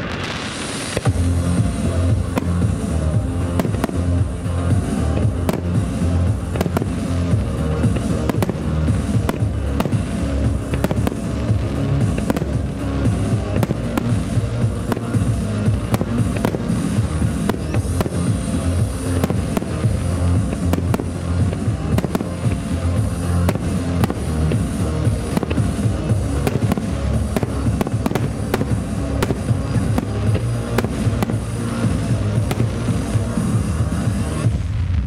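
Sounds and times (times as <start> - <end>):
fireworks bursting: 0.0 - 35.0
music over loudspeakers: 0.0 - 35.0.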